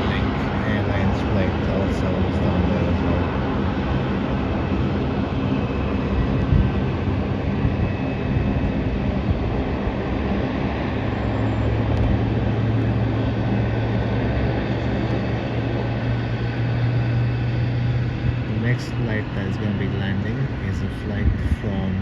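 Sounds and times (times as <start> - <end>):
jet engines rumbling: 0.0 - 22.0
low steady hum: 0.0 - 22.0.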